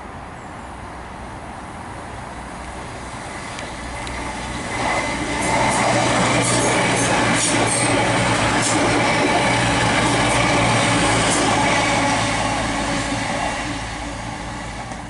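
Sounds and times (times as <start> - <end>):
rush of train wheels on rail: 2.3 - 15.0.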